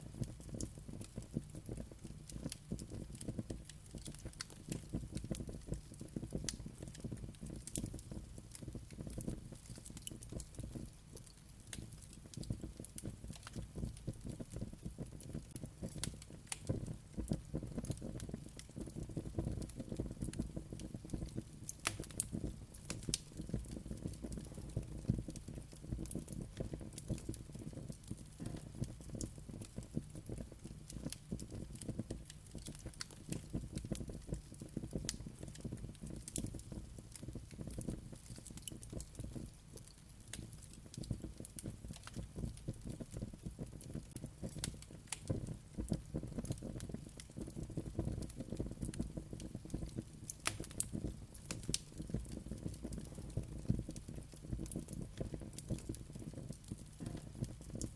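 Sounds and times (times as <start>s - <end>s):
low rumble of flames: 0.0s - 57.9s
wood fire crackling: 0.0s - 57.9s.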